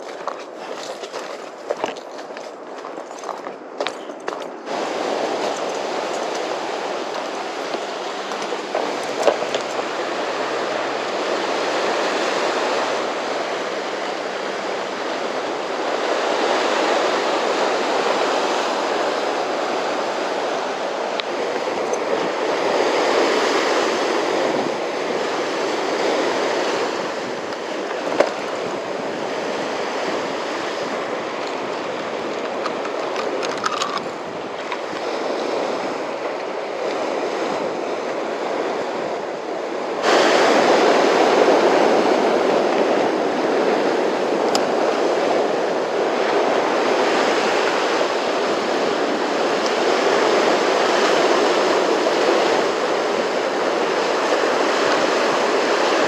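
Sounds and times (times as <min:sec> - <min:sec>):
heavy surf washing in: 0:00.0 - 0:56.0.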